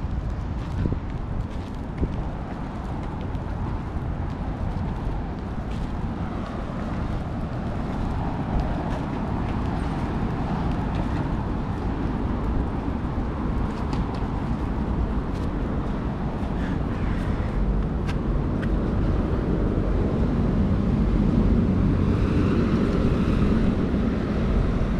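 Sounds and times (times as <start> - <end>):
traffic hum: 0.0 - 24.9.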